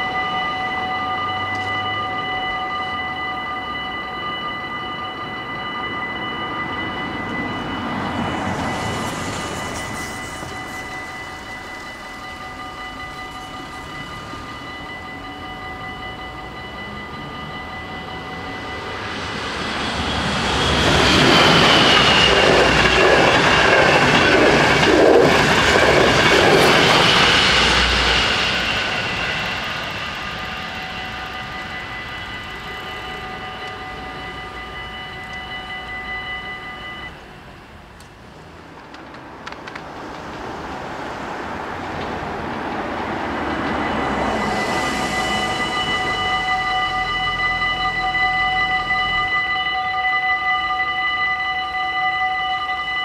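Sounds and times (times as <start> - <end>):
level crossing bells ringing: 0.0 - 38.6, 40.8 - 53.0
train passing: 0.0 - 53.0.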